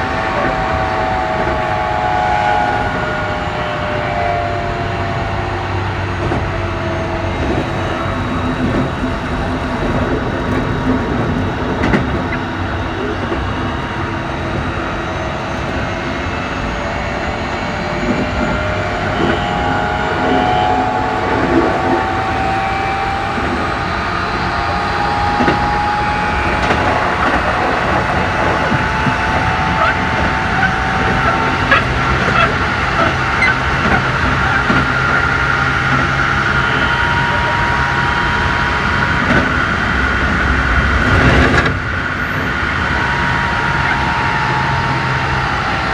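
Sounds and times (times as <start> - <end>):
train motor whine: 0.0 - 45.9
train wheels rumbling on rails: 0.0 - 45.9.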